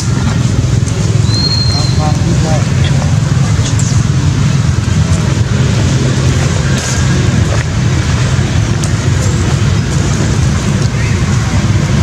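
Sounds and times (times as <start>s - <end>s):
engine running low rumble: 0.0s - 12.0s.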